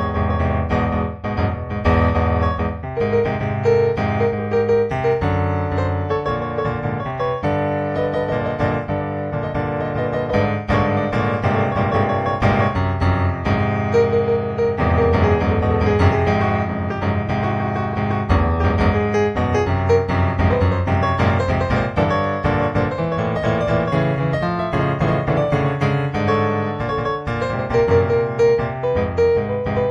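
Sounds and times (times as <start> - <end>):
flowing piano music: 0.0 - 29.9.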